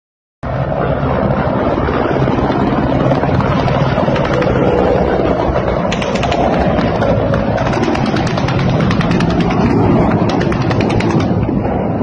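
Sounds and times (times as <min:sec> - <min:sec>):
helicopters flying past: 0:00.4 - 0:12.0.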